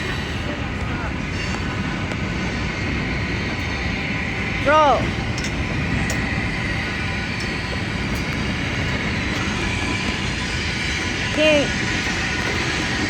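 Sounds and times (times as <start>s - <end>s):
freight train rolling on rails: 0.0s - 13.0s.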